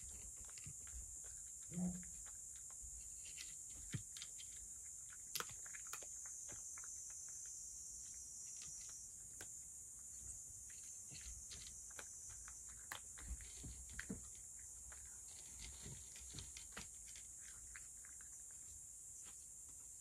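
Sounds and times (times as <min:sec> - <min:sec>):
cat chewing and licking: 0:00.0 - 0:19.4.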